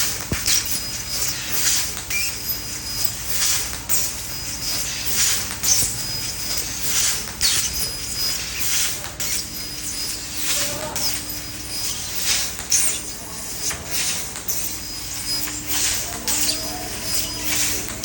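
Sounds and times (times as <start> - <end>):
laser cutter hissing: 0.0 - 18.0
squeaky whines: 0.4 - 18.0.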